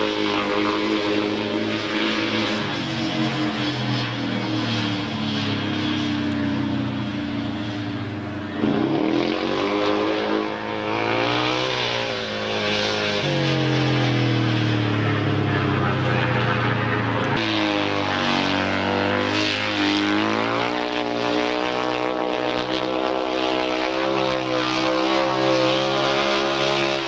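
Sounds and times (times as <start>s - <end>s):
motorcycle engines droning: 0.0s - 27.0s.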